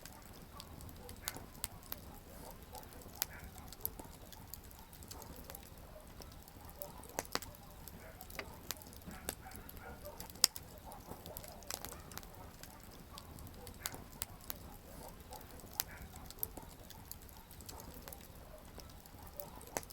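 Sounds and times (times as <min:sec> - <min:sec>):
campfire crackling: 0:00.0 - 0:19.9
low rumble of burning fire: 0:00.0 - 0:19.9
sharp pops and snaps: 0:00.0 - 0:19.9.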